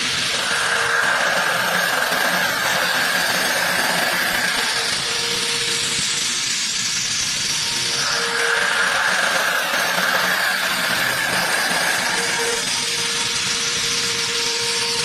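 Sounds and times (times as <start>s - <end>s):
high-pitched whine: 0.0s - 15.0s
milling machine cutting hiss: 0.0s - 15.0s.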